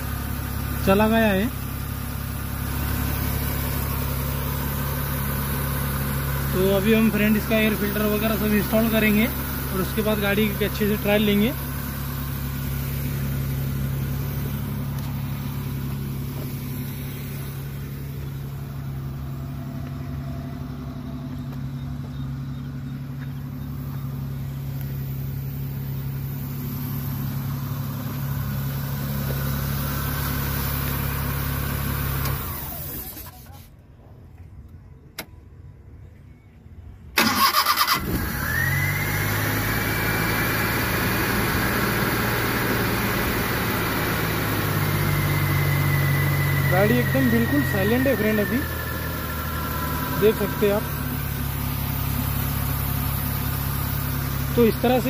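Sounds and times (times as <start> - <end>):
engine whine: 0.0 - 33.4, 34.0 - 55.0
car engine idling: 0.0 - 36.4, 37.1 - 55.0.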